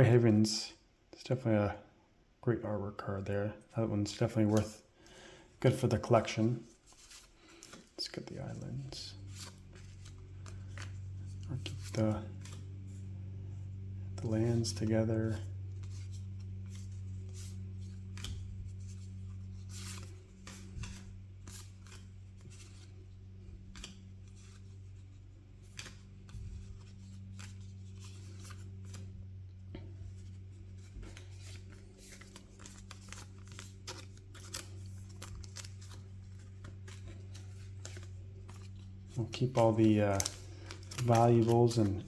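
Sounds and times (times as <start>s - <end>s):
steady low hum: 0.0s - 42.0s
cards clicking and rustling: 6.2s - 13.0s, 14.2s - 29.1s, 29.7s - 42.0s.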